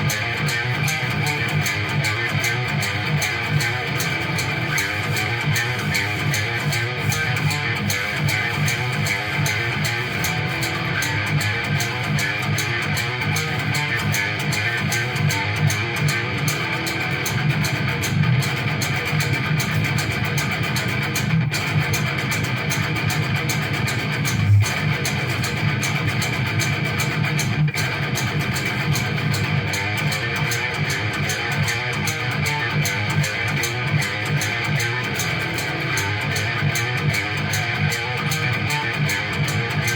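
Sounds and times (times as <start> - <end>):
plucked and strummed guitar: 0.0 - 39.9.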